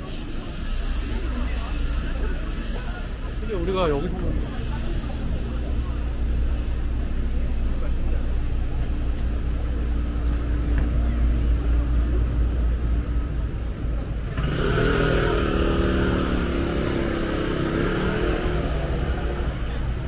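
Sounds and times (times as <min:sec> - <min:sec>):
street traffic rumble: 0:00.0 - 0:20.0
vehicle engine: 0:00.0 - 0:20.0.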